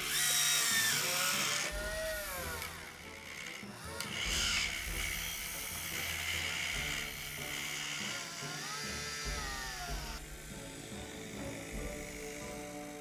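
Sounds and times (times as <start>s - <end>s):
background music: 0.0s - 13.0s
small electric motors whining: 0.0s - 13.0s.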